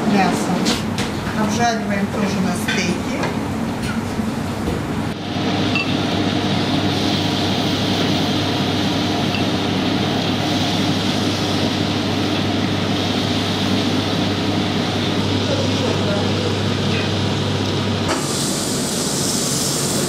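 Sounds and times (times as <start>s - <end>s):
ventilation drone: 0.0s - 20.0s.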